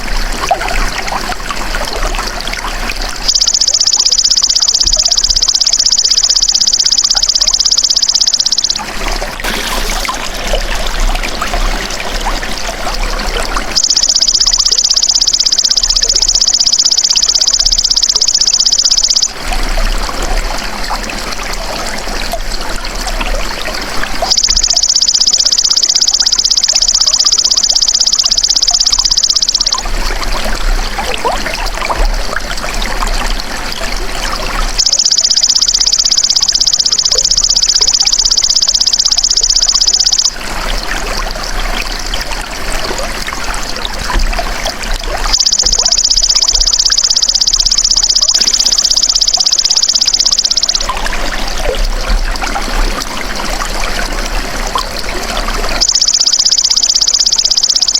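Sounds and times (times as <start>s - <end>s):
trickling water: 0.0s - 57.9s.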